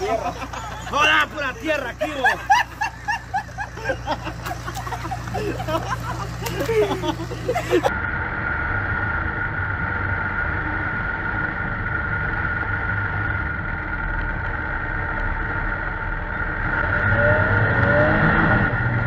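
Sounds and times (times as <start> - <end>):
high whine: 0.0 - 19.0
vehicle engine humming: 0.0 - 19.0.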